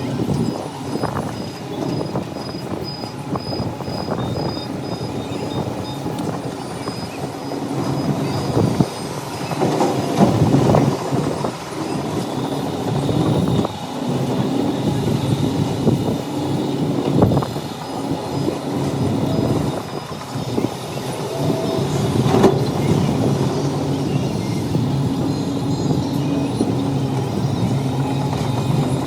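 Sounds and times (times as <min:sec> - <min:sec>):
diesel engine rumbling under load: 0:00.0 - 0:29.0.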